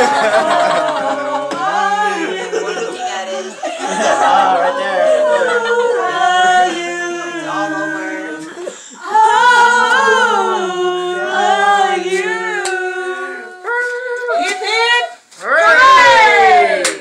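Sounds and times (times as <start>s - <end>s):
group singing a cappella: 0.0s - 17.0s.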